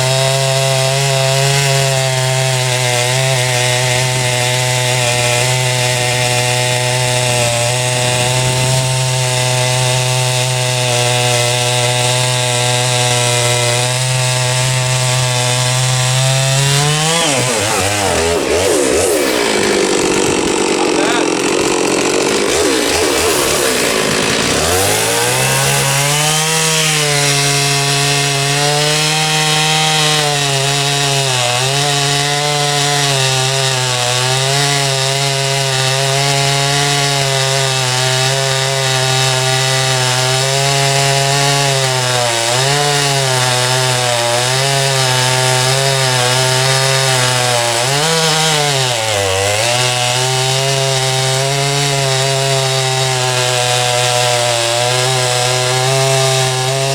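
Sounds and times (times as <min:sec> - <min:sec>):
chainsaw cutting a log: 0:00.0 - 0:56.9.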